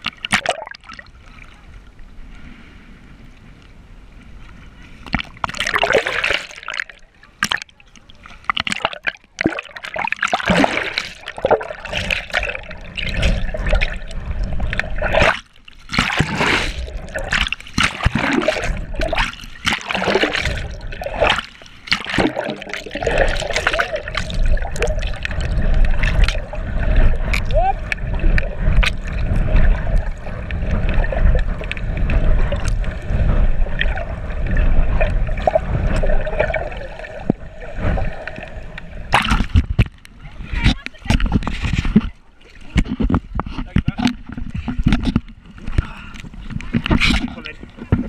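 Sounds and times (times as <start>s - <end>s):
muffled underwater sloshing: 0.0s - 48.0s
water splashes and rushes: 0.0s - 48.0s.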